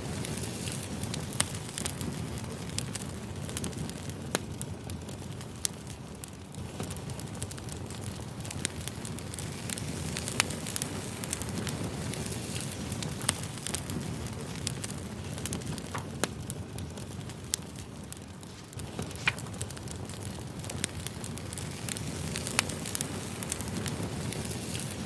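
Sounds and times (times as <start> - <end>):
firewood crackling and popping: 0.0 - 25.0
flames rushing: 0.0 - 25.0.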